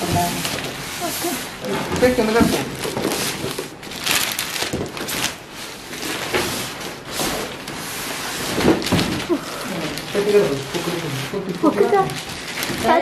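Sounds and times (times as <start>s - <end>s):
plastic wrapping rustling: 0.0s - 13.0s.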